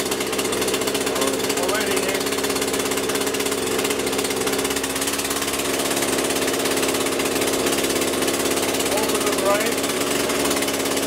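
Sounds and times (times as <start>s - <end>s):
chainsaw engine idling: 0.0s - 11.0s.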